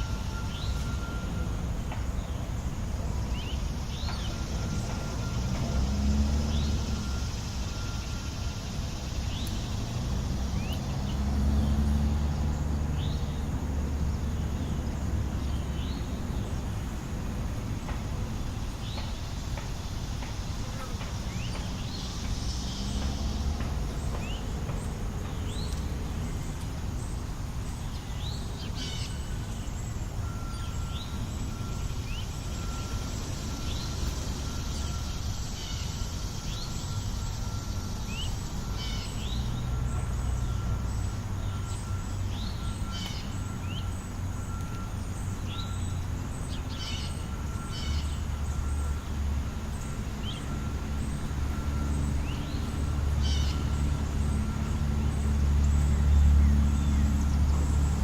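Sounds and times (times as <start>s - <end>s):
birds chirping: 0.0s - 58.0s
road traffic rumble: 0.0s - 58.0s.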